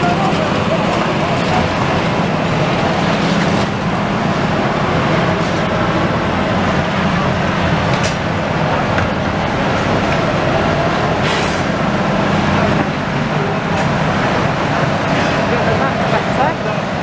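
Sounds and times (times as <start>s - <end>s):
excavator diesel engines running: 0.0s - 17.0s.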